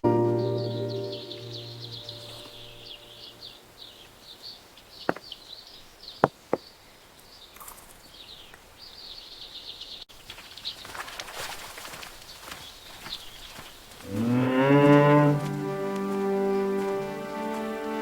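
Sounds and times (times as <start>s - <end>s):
small birds chirping: 0.0s - 11.2s, 12.1s - 15.5s
rural outdoor ambience: 0.0s - 18.0s.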